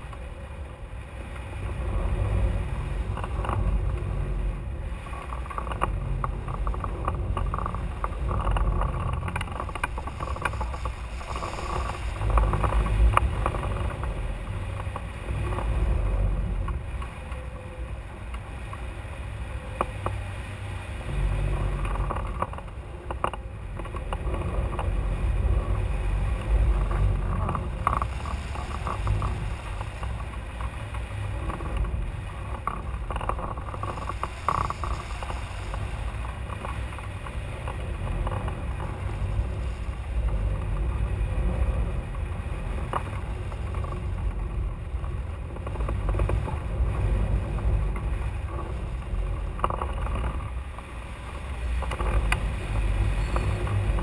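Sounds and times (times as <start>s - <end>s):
faint ticks: 0.0s - 0.3s, 1.3s - 20.4s, 21.1s - 54.0s
wind rushing over microphone: 0.0s - 54.0s.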